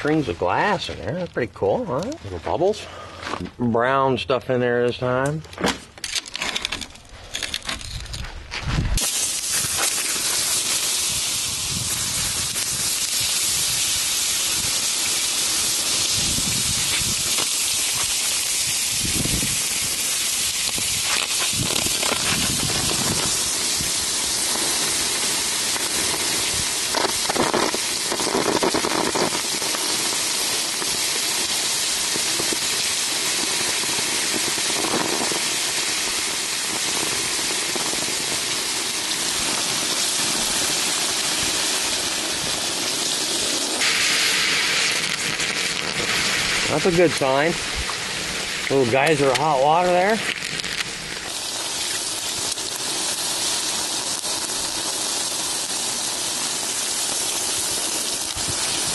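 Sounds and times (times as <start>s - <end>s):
garden hose spraying: 8.7s - 58.9s
water hissing into steam: 9.0s - 58.9s.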